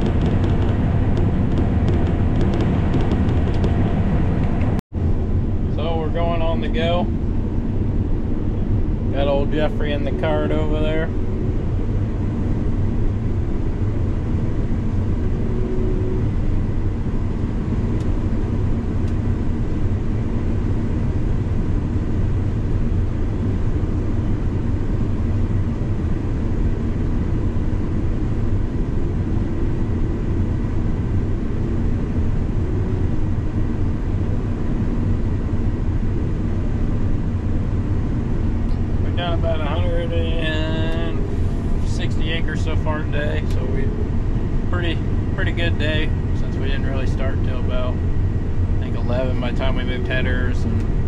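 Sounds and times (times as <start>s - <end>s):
combine harvester drone: 0.0s - 51.0s
faint steady whine: 0.0s - 51.0s.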